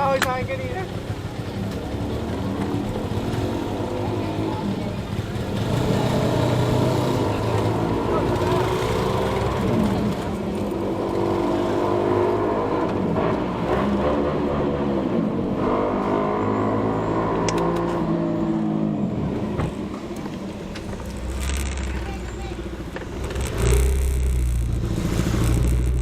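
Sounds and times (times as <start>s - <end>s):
motorcycle engine revving: 0.7s - 26.0s.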